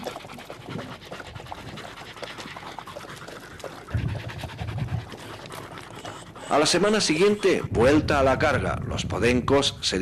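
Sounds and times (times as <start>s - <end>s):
tongues lapping water: 0.0s - 8.3s
dogs panting: 0.0s - 8.6s.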